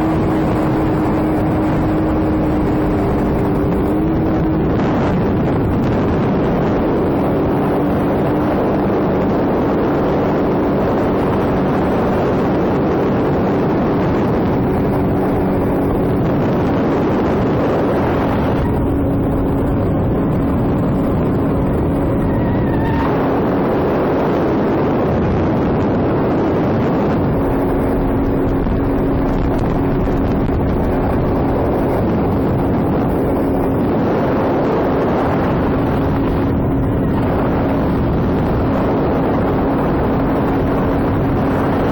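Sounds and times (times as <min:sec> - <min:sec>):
jet ski engine drone: 0:00.0 - 0:41.9
wind on microphone: 0:00.0 - 0:41.9.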